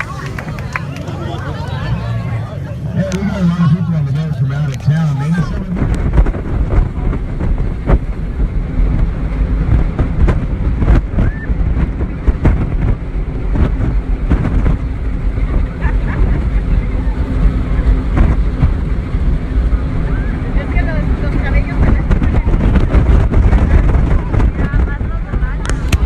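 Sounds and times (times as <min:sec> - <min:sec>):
boat engine rumbling: 0:00.0 - 0:26.0
wind buffeting microphone: 0:00.0 - 0:26.0.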